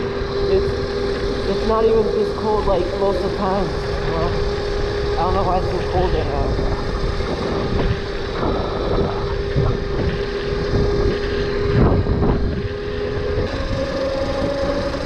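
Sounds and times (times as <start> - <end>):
electric motor whining: 0.0 - 15.0
wind buffeting microphone: 0.0 - 15.0.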